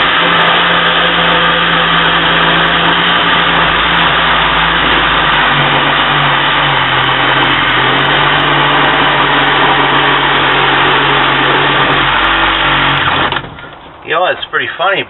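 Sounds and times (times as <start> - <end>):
power saw cutting through plywood: 0.0 - 13.6.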